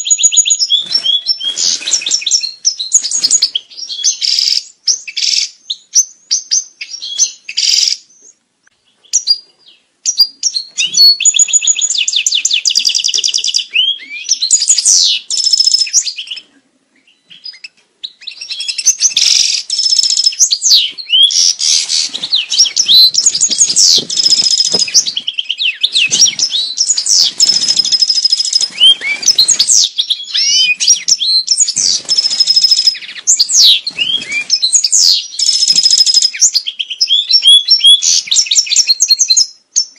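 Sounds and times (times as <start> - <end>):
finch twittering song: 0.0 - 39.9.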